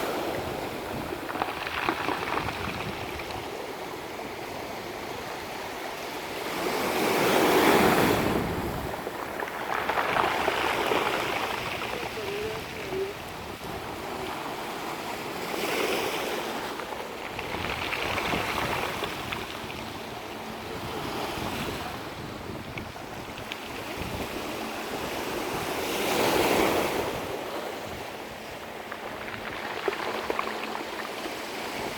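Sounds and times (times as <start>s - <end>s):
waves on pebble beach: 0.0s - 31.9s.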